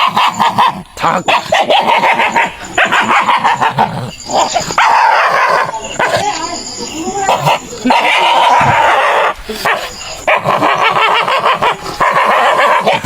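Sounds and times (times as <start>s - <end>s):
dog vocalizing harshly: 0.0s - 13.0s.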